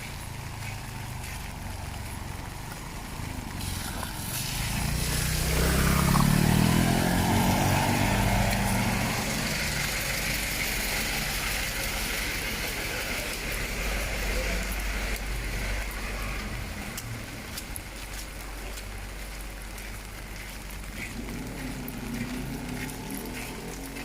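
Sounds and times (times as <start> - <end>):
rain hiss: 0.0 - 24.0
vehicle engine passing: 0.0 - 24.0.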